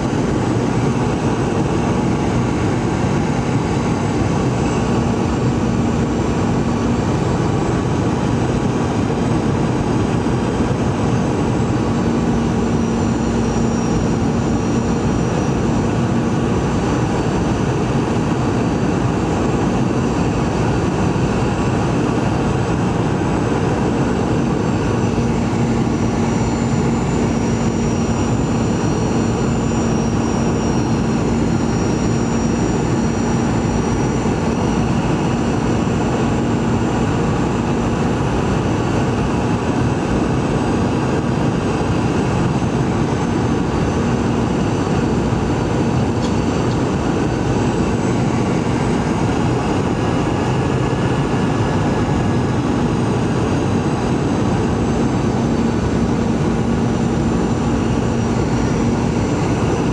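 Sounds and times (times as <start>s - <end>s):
airplane cabin engine roar: 0.0s - 59.9s
faint high whine: 0.0s - 59.9s
low hum: 0.0s - 59.9s.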